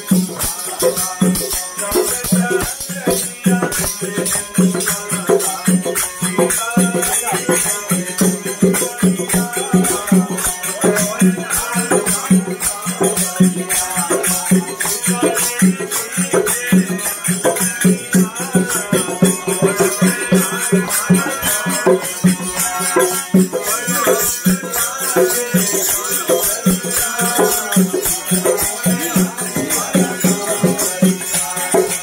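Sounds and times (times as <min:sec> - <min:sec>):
jingling hand percussion: 0:00.0 - 0:32.0
person singing: 0:00.0 - 0:32.0.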